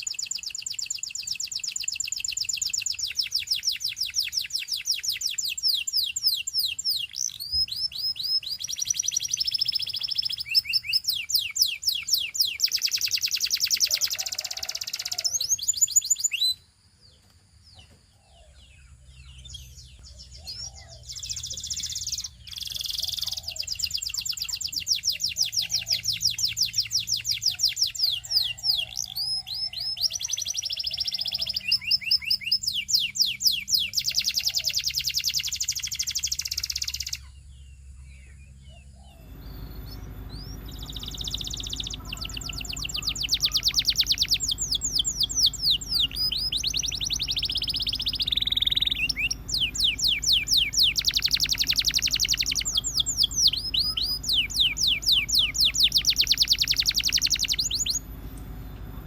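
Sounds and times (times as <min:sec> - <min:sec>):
canary trilling: 0:00.0 - 0:16.6, 0:18.2 - 0:37.3, 0:39.0 - 0:58.6.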